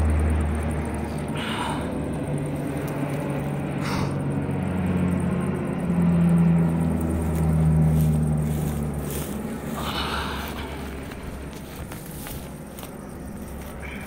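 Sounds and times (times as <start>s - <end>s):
propeller plane droning overhead: 0.0s - 14.0s.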